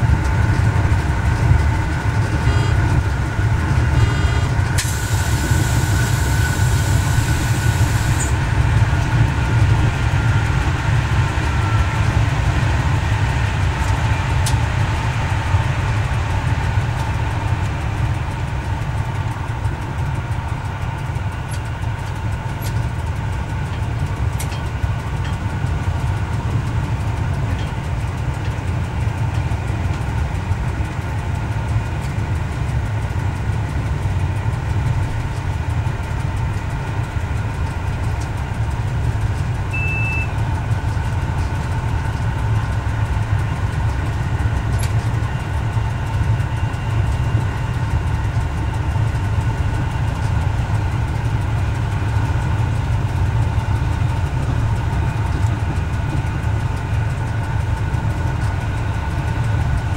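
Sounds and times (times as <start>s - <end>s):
diesel engine droning: 0.0s - 59.9s
wheel and rail noise: 0.0s - 59.9s.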